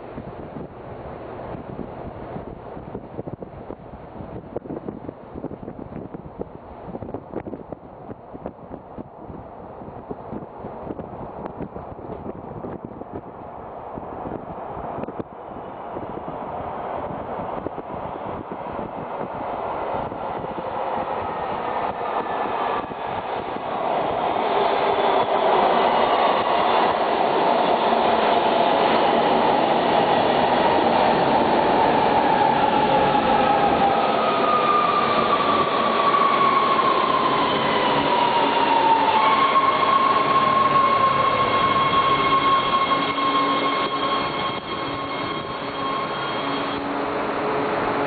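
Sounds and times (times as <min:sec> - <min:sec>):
subway train arriving: 0:00.0 - 0:48.0.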